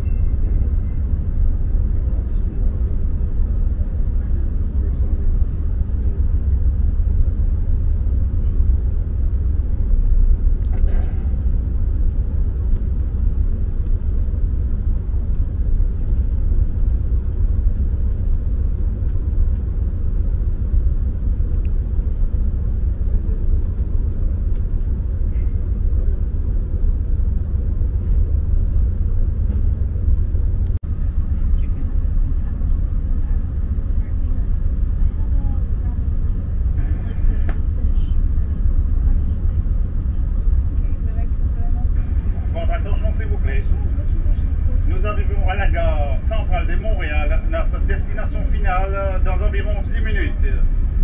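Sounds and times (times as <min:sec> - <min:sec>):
train rumbling along track: 0:00.0 - 0:51.0.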